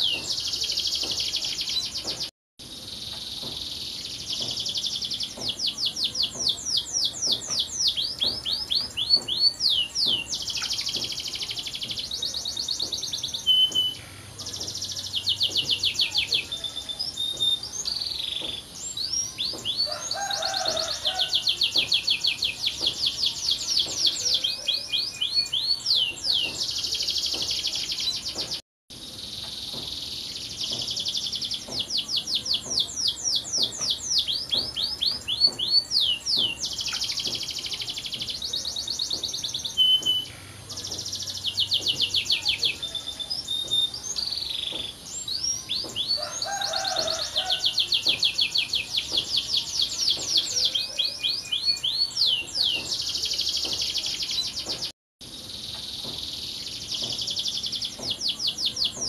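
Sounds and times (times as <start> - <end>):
canary singing: 0.0 - 2.2, 3.0 - 28.6, 29.8 - 54.9.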